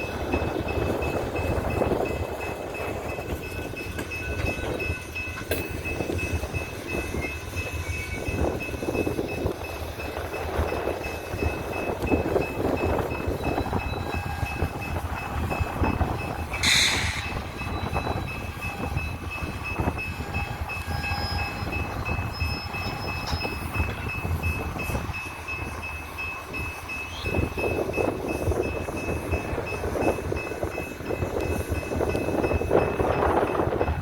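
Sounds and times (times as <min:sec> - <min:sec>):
train clanks and knocks: 0:00.0 - 0:34.0
train rumbling: 0:00.0 - 0:34.0.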